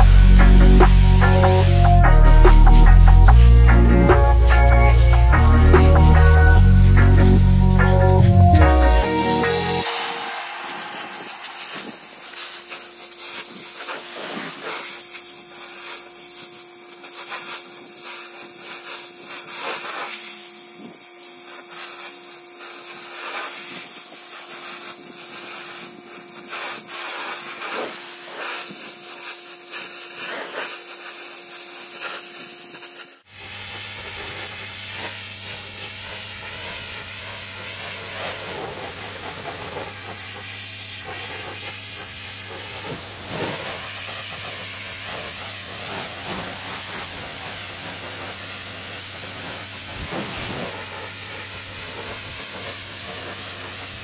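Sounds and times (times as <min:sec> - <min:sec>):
pressure washer spraying water: 0:00.0 - 0:54.0.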